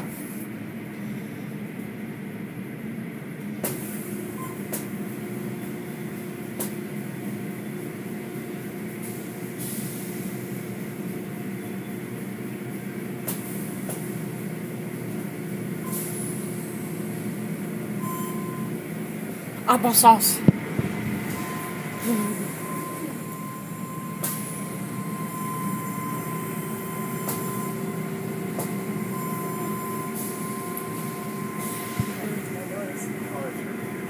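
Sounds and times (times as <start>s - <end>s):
car wash machinery hum: 0.0s - 34.0s.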